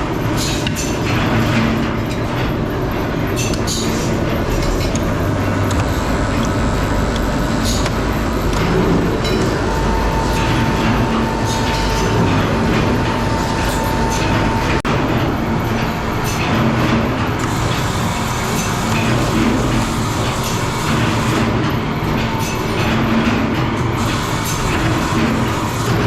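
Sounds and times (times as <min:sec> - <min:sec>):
rumbling machine with thin whine: 0:00.0 - 0:26.0.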